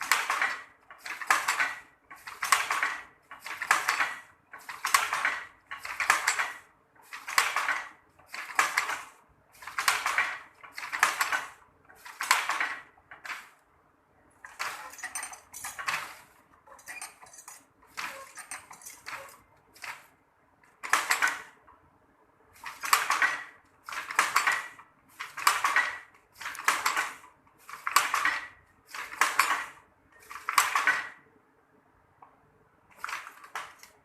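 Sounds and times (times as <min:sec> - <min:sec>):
wooden loom clattering: 0:00.0 - 0:13.5, 0:14.4 - 0:20.1, 0:20.8 - 0:21.6, 0:22.6 - 0:31.2.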